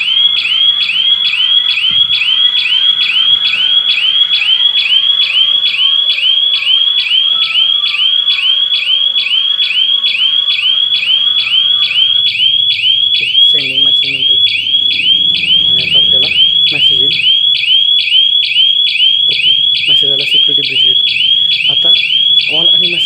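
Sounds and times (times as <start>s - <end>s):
warbling alarm siren: 0.0s - 23.0s.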